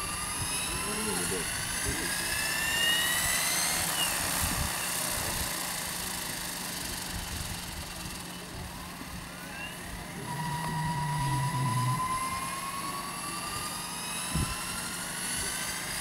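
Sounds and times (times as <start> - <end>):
helicopter rotor whir: 0.0 - 16.0
high motor whine: 0.0 - 16.0.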